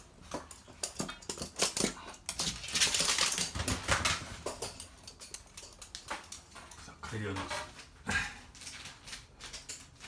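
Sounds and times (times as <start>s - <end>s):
dog paws clicking and scuffing: 0.2s - 10.0s.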